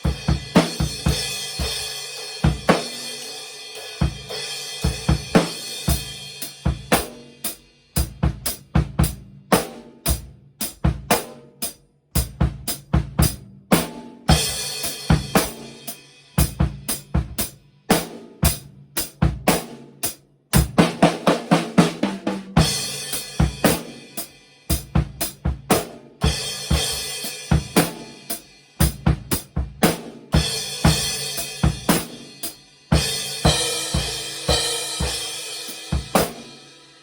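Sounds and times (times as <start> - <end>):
drum kit grooves and fills: 0.0 - 37.0.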